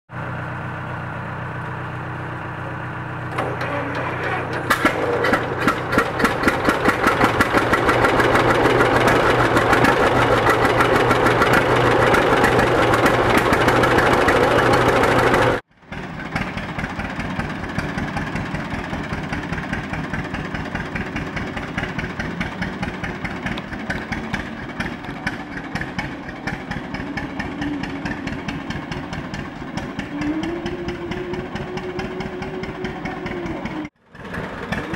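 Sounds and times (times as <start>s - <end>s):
two-cylinder tractor engine running: 0.1s - 34.9s.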